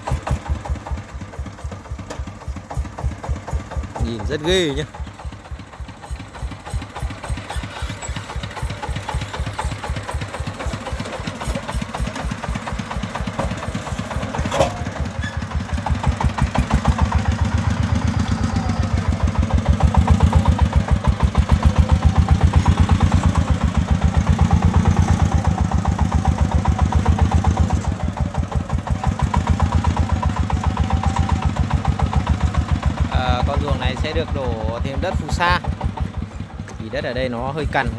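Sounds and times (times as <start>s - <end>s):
diesel engine chugging: 0.0s - 37.9s.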